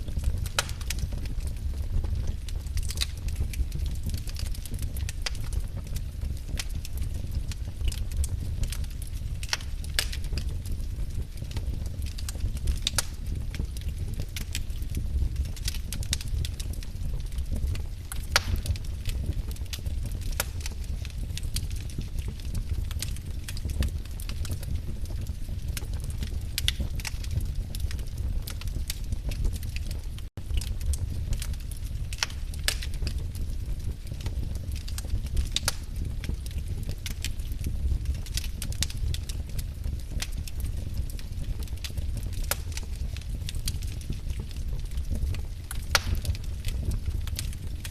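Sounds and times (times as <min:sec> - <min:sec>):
fire crackling and popping: 0:00.0 - 0:47.9
low rumble of flames: 0:00.0 - 0:47.9.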